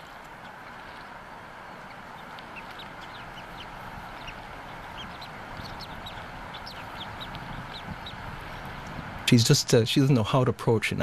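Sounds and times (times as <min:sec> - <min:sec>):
eagle chick peeping: 0:00.0 - 0:09.2
steady background hiss: 0:00.0 - 0:11.0.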